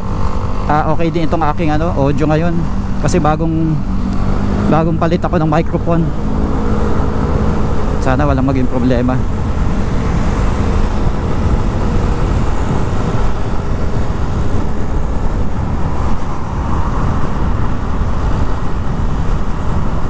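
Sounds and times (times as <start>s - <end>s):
motorcycle engine: 0.0s - 20.0s
wind rush on microphone: 0.0s - 20.0s.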